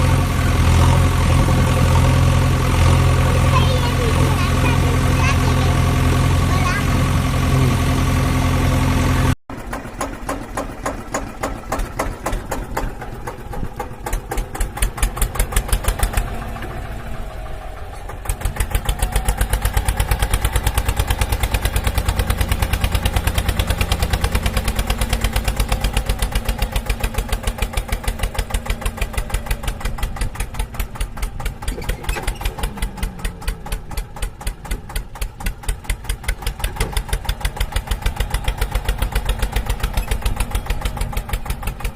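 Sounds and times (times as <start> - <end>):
engine chugging: 0.0 - 41.9.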